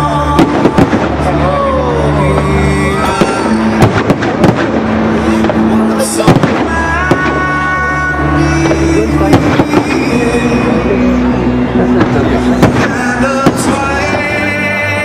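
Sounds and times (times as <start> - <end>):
fireworks bursting and cracking: 0.0 - 15.0
orchestral music: 0.0 - 15.0.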